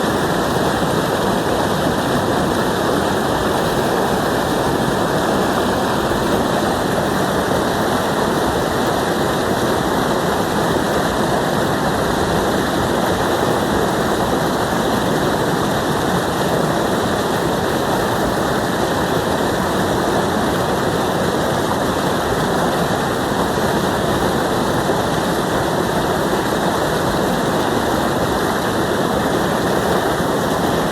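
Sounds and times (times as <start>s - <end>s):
water gurgling: 0.0s - 30.9s.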